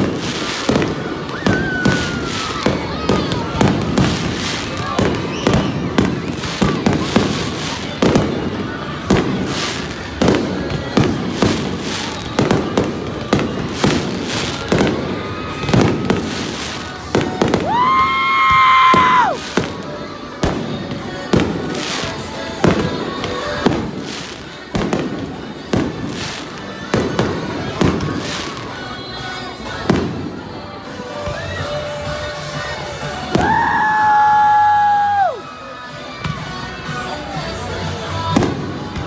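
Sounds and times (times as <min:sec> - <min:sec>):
fireworks bursting with bangs: 0:00.0 - 0:31.4, 0:37.8 - 0:39.0.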